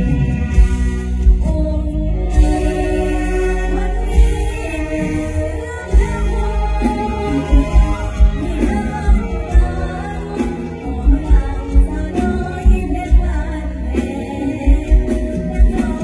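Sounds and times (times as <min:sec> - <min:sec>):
band playing: 0:00.0 - 0:16.0
heavy bass drum beat: 0:00.0 - 0:16.0
woman singing: 0:00.1 - 0:16.0.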